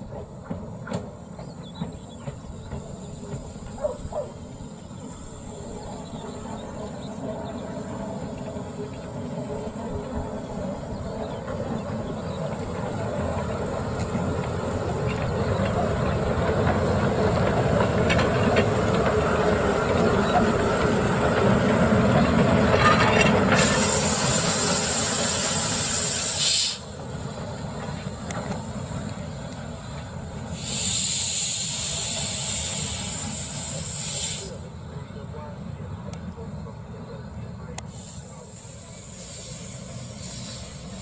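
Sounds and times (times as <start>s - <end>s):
steam locomotive rumbling: 0.0s - 41.0s
steam hissing: 2.1s - 22.4s, 23.5s - 34.8s, 37.8s - 41.0s.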